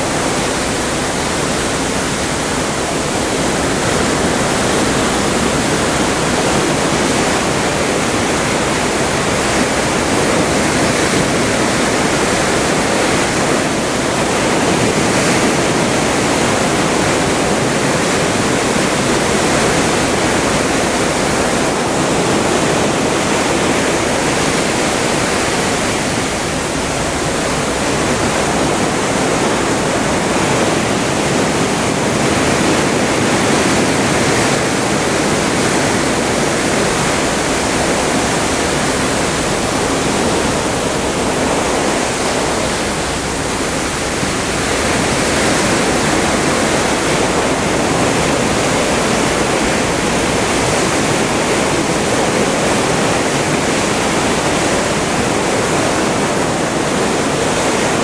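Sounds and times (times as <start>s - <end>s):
seawater rushing along a ship: 0.0s - 58.0s.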